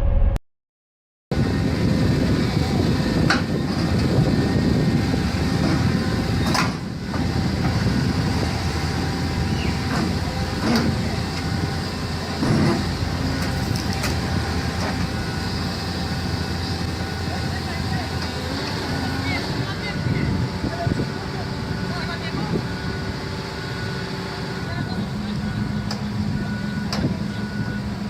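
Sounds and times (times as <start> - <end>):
heavy vehicle engine rumbling: 1.3 - 28.0.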